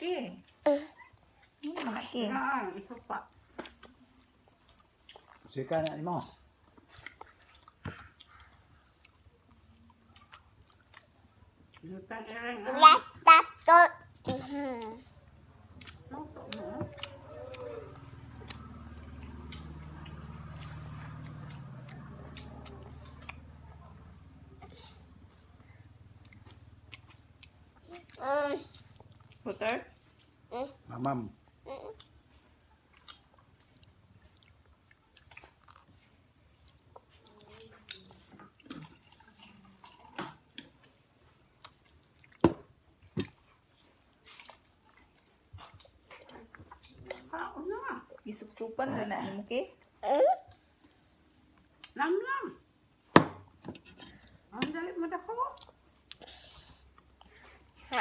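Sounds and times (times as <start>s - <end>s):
toddler chewing: 2.8s - 49.1s, 49.7s - 52.0s, 52.7s - 58.0s.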